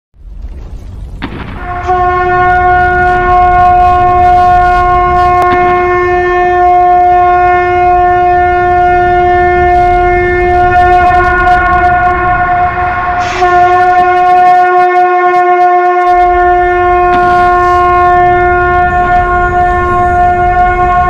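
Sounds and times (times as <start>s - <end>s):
conch shell blown: 1.5s - 21.0s.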